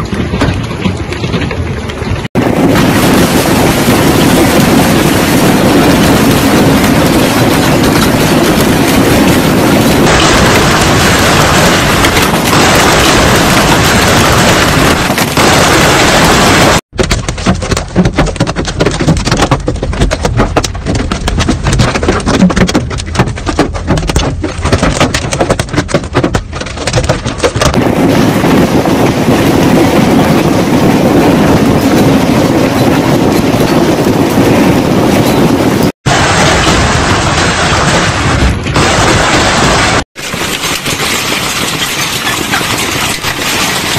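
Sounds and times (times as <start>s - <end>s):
heavy rain and hail rushing: 0.0s - 20.0s, 20.8s - 43.9s
hail clattering: 2.4s - 43.9s.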